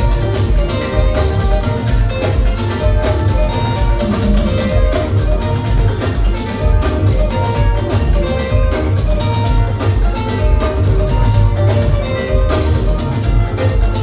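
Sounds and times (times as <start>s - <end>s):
driving drums and percussion: 0.0s - 14.0s
keyboard melodic notes: 0.0s - 14.0s.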